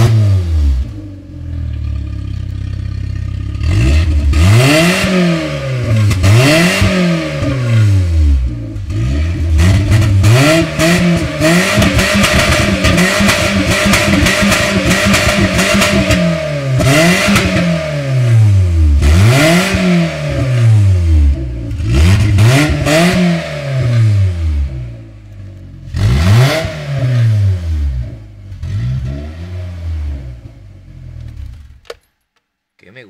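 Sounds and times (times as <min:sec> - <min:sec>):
car engine revving: 0:00.0 - 0:31.8.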